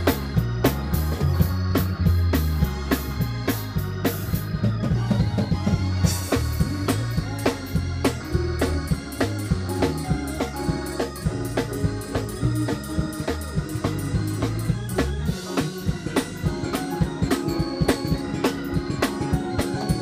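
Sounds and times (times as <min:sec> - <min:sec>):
bass guitar low notes: 0:00.0 - 0:20.0
drum kit steady beat: 0:00.0 - 0:20.0
keyboard: 0:00.0 - 0:20.0
organ: 0:00.0 - 0:20.0.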